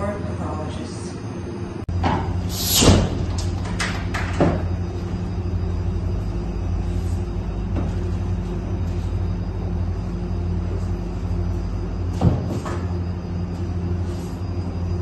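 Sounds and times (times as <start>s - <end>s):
freezer low hum: 0.0s - 15.0s.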